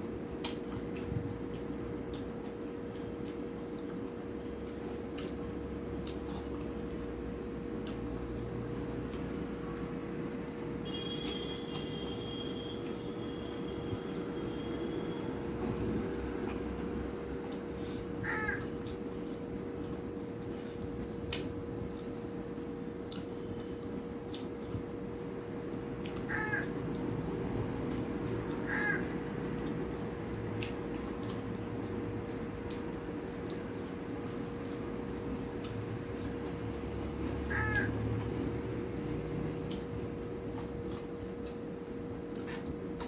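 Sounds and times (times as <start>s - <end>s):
soft eating clicks: 0.0s - 43.0s.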